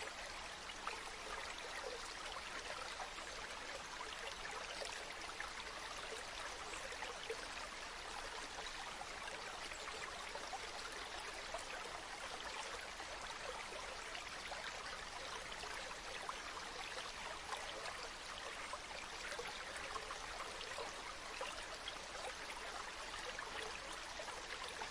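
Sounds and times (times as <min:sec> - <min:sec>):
stream rushing and bubbling: 0:00.0 - 0:24.9.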